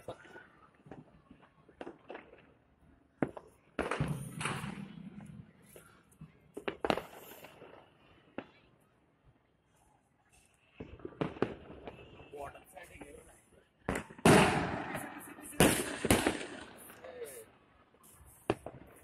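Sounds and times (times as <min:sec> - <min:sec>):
firecrackers banging and crackling: 0:00.0 - 0:08.7, 0:10.7 - 0:19.0.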